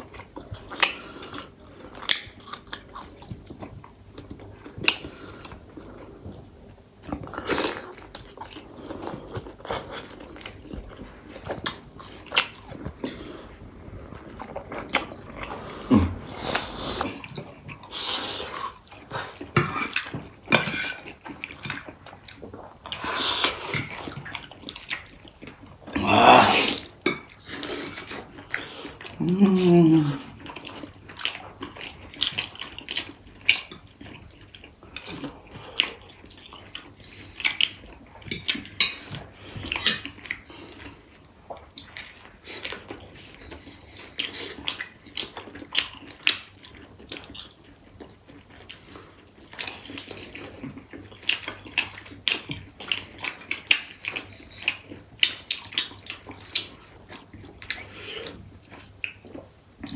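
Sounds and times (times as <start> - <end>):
chewing and lip smacking: 0.0 - 26.0, 26.7 - 59.9.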